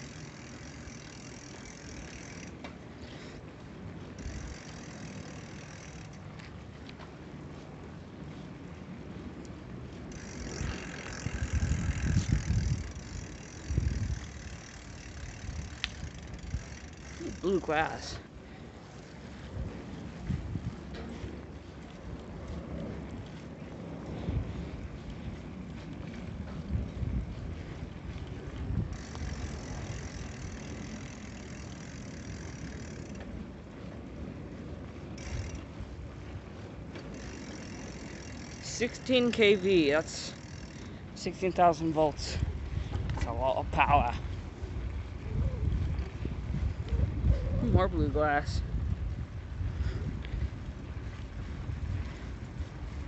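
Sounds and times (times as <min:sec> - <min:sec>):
bicycle rattling over brick pavers: 0:00.0 - 0:53.0
wind rumble on microphone: 0:00.0 - 0:53.0.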